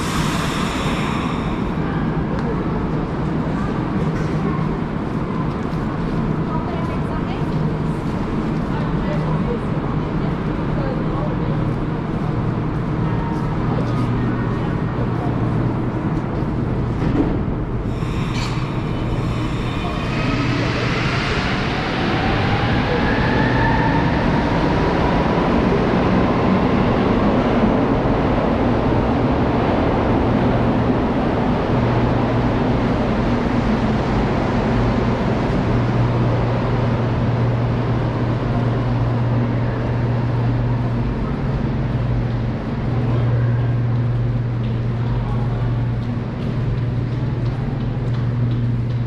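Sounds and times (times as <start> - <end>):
low station rumble and hum: 0.0 - 49.0.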